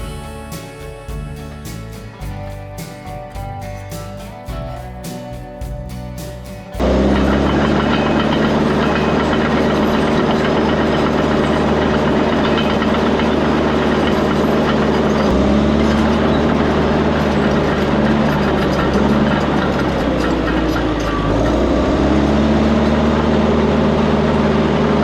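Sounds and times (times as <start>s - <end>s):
heavy equipment diesel engine: 0.0s - 5.1s, 5.9s - 25.0s.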